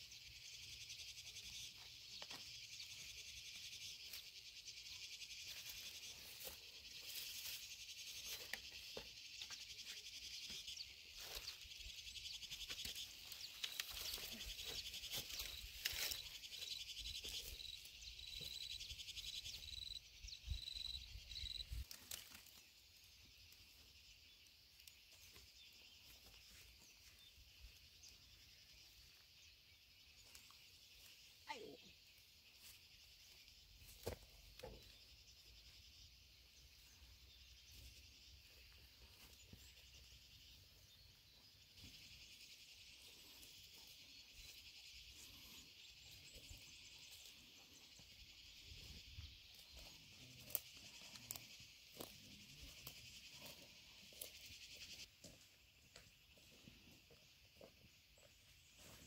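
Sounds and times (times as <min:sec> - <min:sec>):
high insect chorus: 0:00.0 - 0:59.0.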